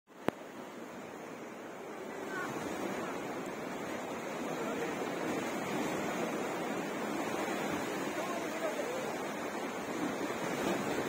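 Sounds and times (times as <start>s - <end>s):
waves washing ashore: 0.1s - 11.0s.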